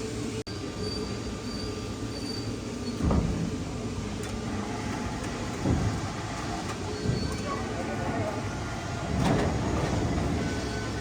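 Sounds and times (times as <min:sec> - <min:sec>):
heavy machinery rumbling: 0:01.9 - 0:11.0.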